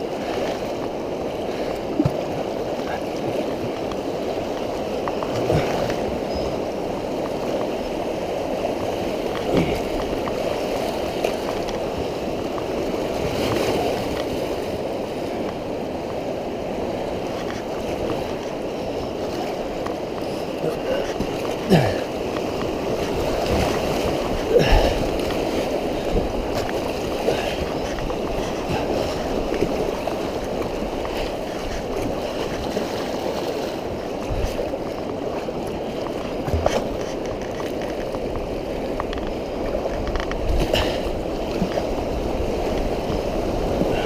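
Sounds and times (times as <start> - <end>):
water rushing and gurgling: 0.0 - 44.0.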